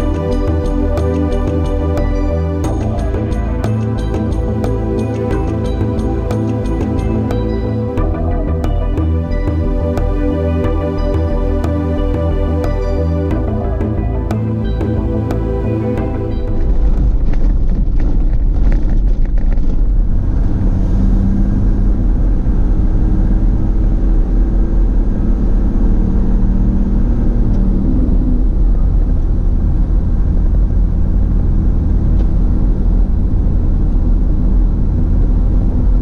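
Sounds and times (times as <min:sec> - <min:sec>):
vehicle engine and tyres rumbling: 0:00.0 - 0:36.0.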